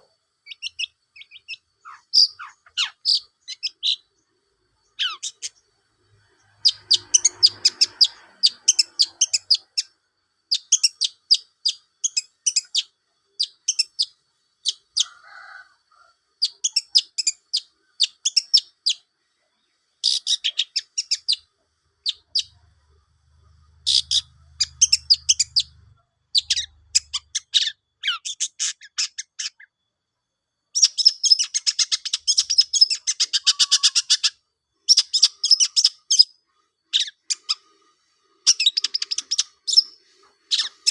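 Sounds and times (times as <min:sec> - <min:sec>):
bird chattering song: 0:00.0 - 0:15.1, 0:16.4 - 0:29.8, 0:30.7 - 0:40.9.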